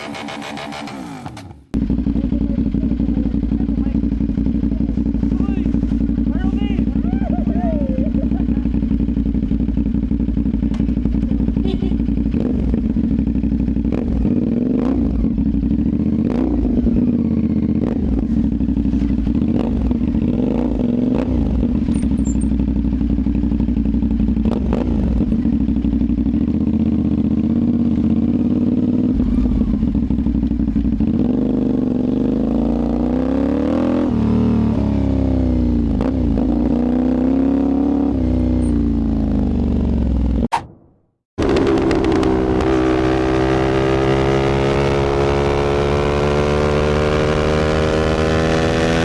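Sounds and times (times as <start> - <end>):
motorcycle engine idling and revving: 0.0 - 40.5, 41.2 - 49.0.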